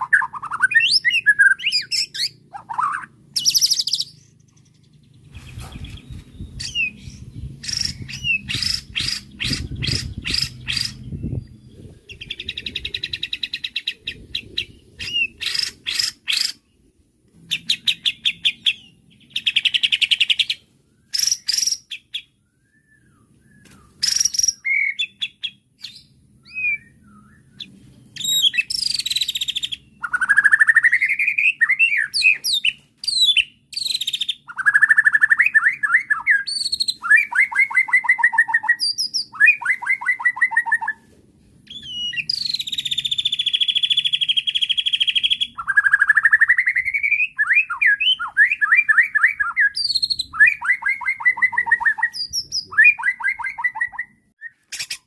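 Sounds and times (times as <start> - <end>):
bird singing: 0.0 - 41.0, 41.6 - 55.0.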